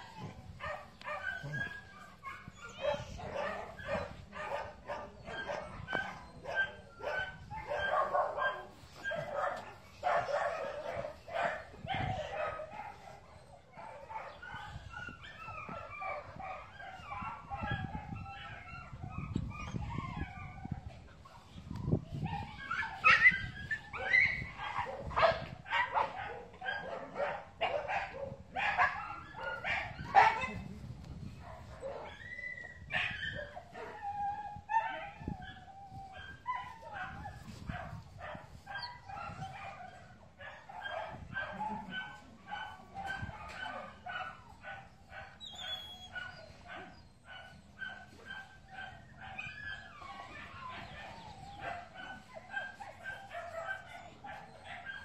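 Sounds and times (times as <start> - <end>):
dogs whining: 0.0 - 24.8, 31.4 - 40.0, 42.8 - 55.0
dogs barking and yelping: 0.0 - 55.0.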